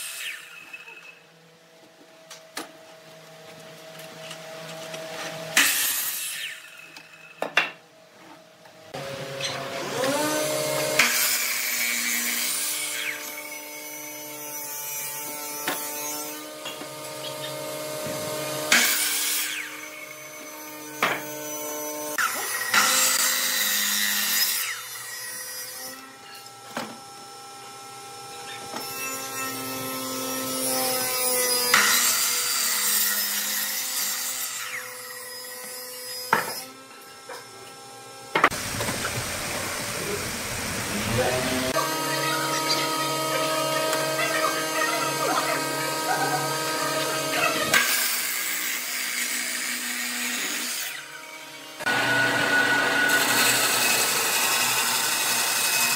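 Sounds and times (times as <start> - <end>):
saw blade cutting wood: 0.0 - 1.2, 3.9 - 7.4, 8.9 - 27.0, 28.2 - 38.6, 40.9 - 55.9.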